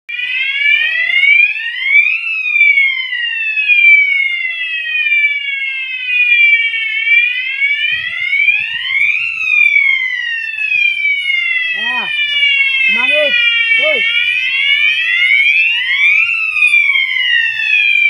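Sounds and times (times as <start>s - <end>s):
fire alarm wailing: 0.1s - 18.0s.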